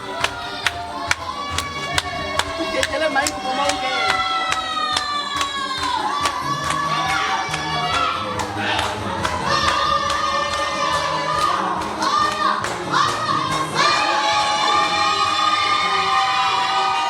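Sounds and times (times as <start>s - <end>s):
sharp claps: 0.0s - 15.8s
group of voices singing: 0.0s - 17.0s.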